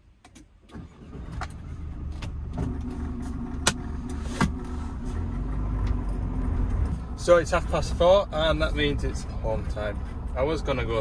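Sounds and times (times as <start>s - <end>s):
diesel engine starting and rumbling: 0.5s - 11.0s.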